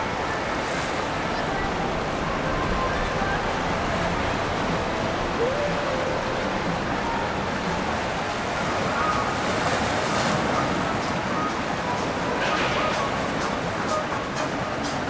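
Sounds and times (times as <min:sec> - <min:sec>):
faint distant voices: 0:00.0 - 0:15.0
river water rushing: 0:00.0 - 0:15.0
wind: 0:00.0 - 0:15.0.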